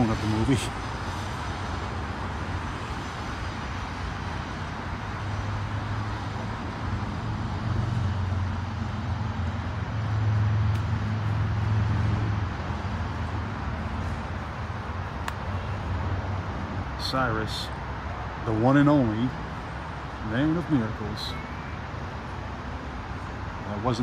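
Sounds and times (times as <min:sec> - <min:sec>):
heavy vehicle passing rumble: 0:00.0 - 0:21.2
road traffic hum: 0:00.0 - 0:24.0.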